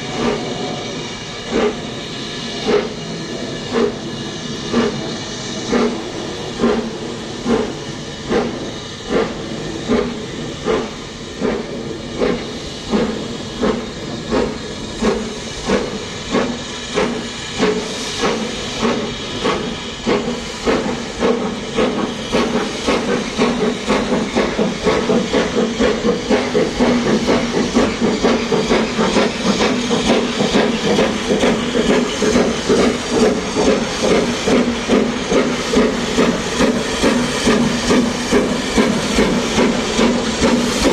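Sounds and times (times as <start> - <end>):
hiss of steam: 0.0 - 40.9
steam locomotive exhaust beats: 0.0 - 40.9.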